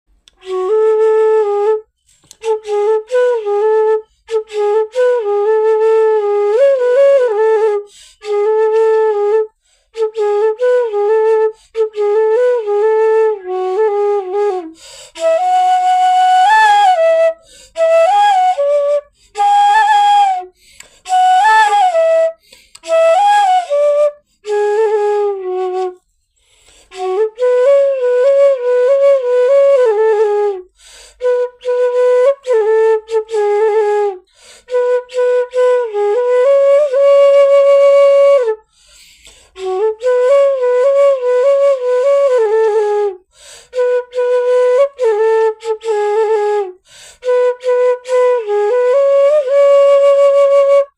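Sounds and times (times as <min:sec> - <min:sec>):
solo flute melody: 0:00.1 - 0:50.9.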